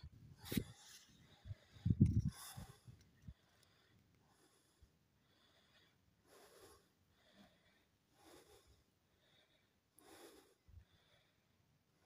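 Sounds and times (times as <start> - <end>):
heavy breathing: 0.6 - 11.6.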